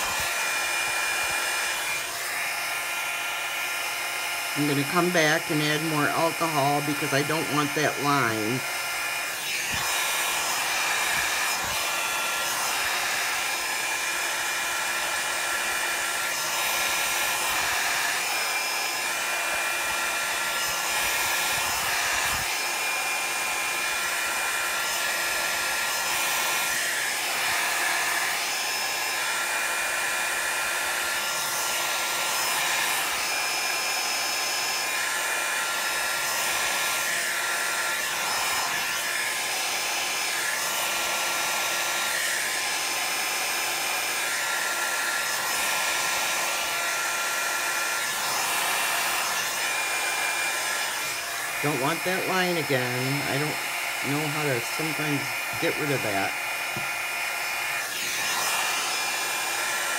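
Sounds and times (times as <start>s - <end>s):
hair dryer blowing air: 0.0s - 59.9s.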